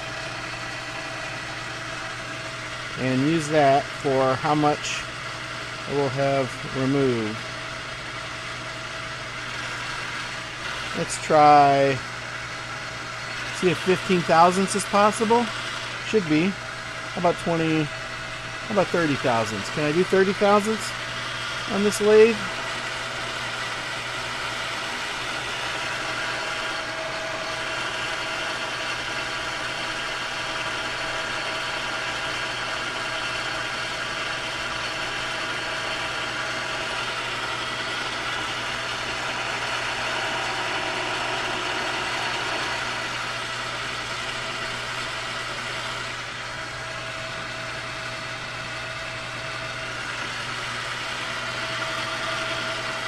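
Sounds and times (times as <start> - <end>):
metal lathe humming: 0.0 - 53.0.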